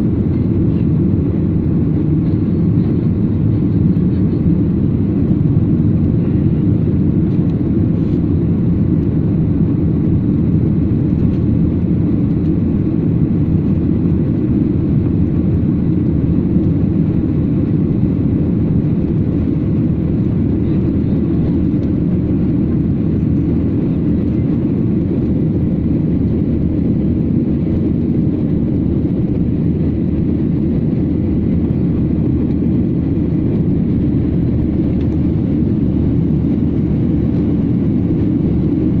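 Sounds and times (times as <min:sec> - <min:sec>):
airliner engines and airflow rumble: 0:00.0 - 0:39.0.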